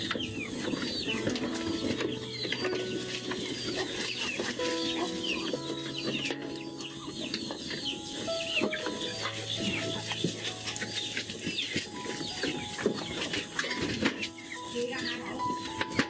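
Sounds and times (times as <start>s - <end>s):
chicks peeping: 0.0s - 16.0s
hen clucking: 0.0s - 16.0s.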